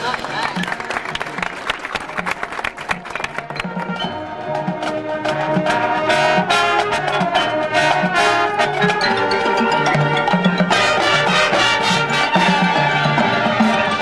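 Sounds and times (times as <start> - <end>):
brass chords: 2.0 - 14.0.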